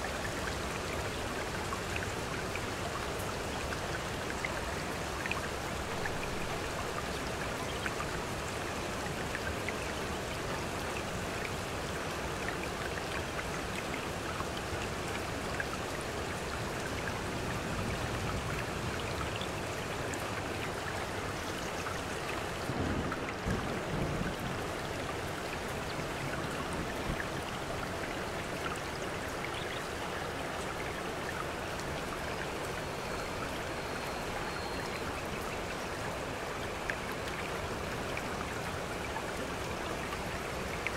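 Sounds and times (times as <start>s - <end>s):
running stream water: 0.0s - 40.9s
steady rainfall: 0.0s - 40.9s.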